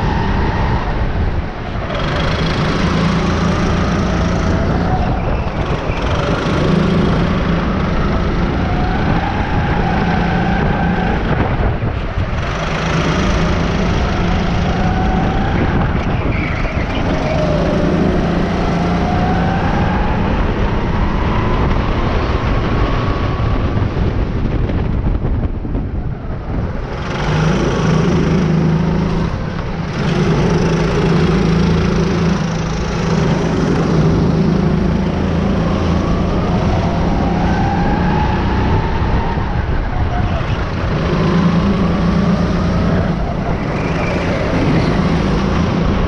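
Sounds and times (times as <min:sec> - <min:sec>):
kart engine accelerating: 0:00.0 - 0:46.0.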